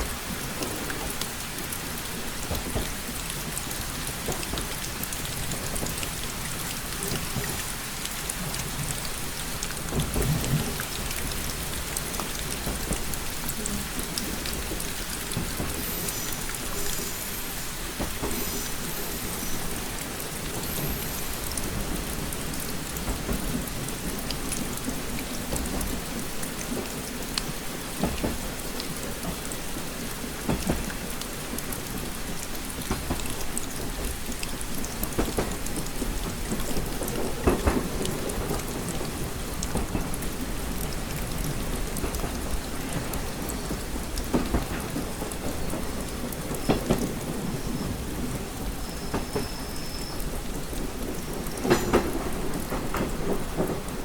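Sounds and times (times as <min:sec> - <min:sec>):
rain against train window: 0:00.0 - 0:54.0.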